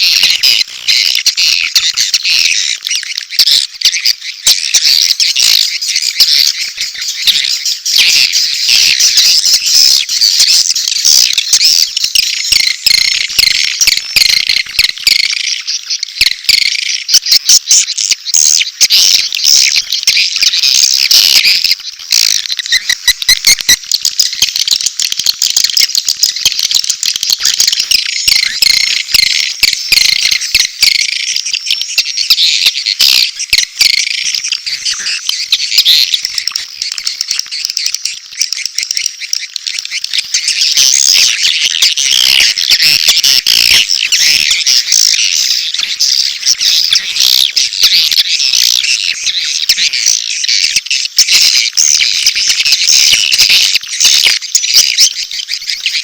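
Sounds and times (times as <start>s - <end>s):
swiftlets twittering and chirping: 0.0s - 56.0s.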